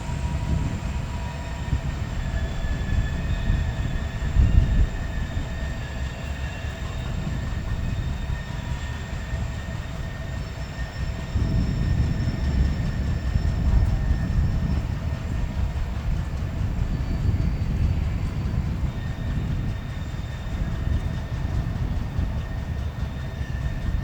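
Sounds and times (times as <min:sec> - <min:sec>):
freight train rumbling: 0:00.0 - 0:24.0
wheel squeals: 0:00.0 - 0:24.0.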